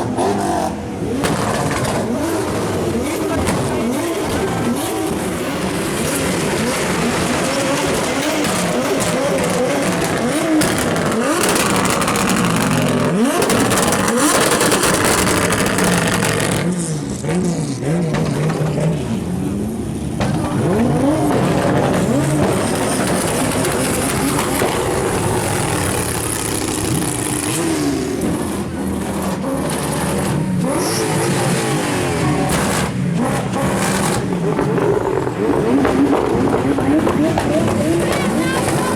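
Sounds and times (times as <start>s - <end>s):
car engines revving: 0.0s - 38.9s
exhaust pops and bangs: 0.0s - 38.9s.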